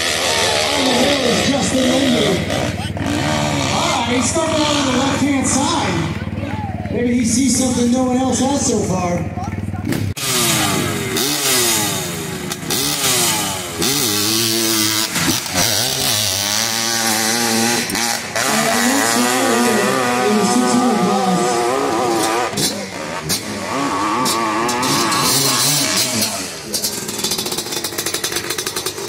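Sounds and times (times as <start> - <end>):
motorcycle engine revving hard: 0.0 - 29.0.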